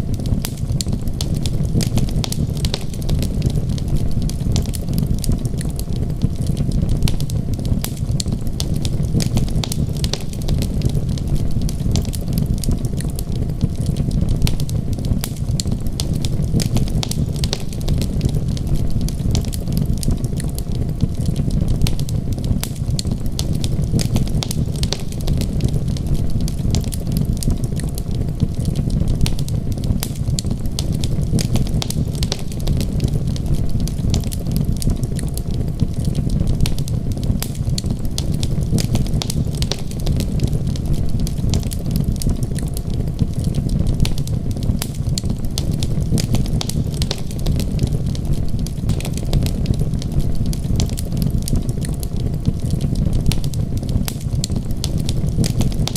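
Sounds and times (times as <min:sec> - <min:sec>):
sharp pops of fire: 0:00.0 - 0:55.9
steady low rumble: 0:00.0 - 0:55.9
wood fire crackling: 0:00.0 - 0:55.9.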